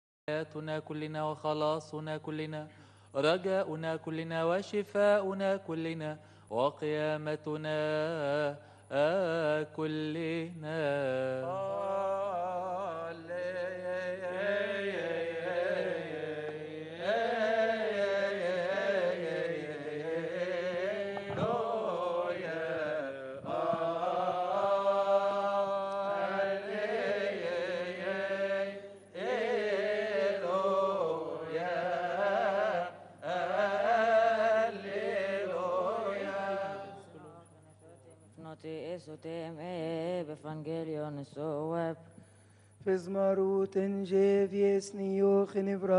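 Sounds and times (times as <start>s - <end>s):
man chanting a slow hymn: 0.3s - 38.2s.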